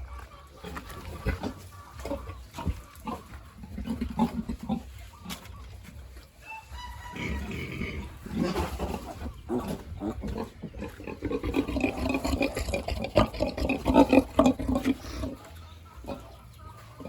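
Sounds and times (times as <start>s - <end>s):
pigs grunting: 0.0s - 5.6s, 7.1s - 17.0s.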